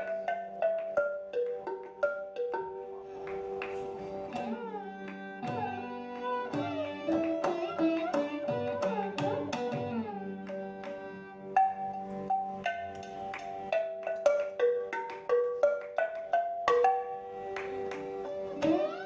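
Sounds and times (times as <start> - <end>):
ringing struck melody notes: 0.0 - 19.0.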